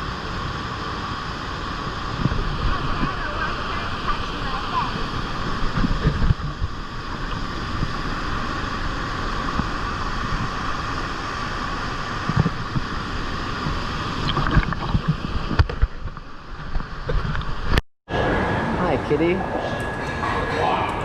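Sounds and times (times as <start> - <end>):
river water rushing: 0.0 - 17.8
wind buffeting microphone: 0.0 - 21.0.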